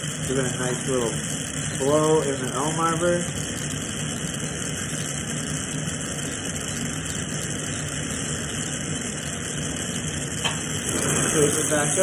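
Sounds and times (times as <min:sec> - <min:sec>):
bench torch flame hissing: 0:00.0 - 0:12.0.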